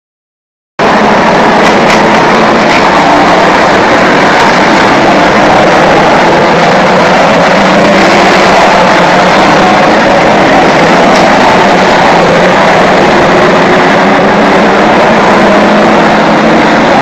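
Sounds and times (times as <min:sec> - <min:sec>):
racing car engines droning: 0:00.8 - 0:17.0.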